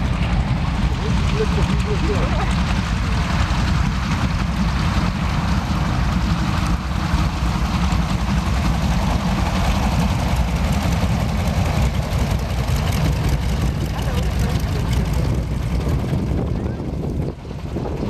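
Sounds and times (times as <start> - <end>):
aircraft radial engines rumbling: 0.0 - 18.0.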